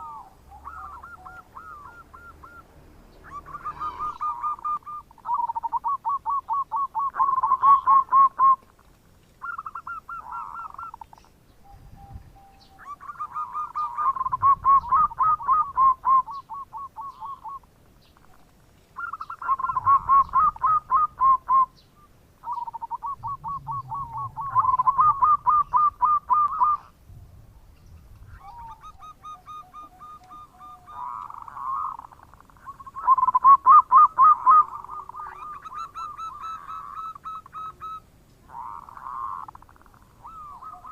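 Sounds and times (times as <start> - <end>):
dove cooing: 0.0 - 21.8, 22.4 - 27.0, 28.3 - 40.9.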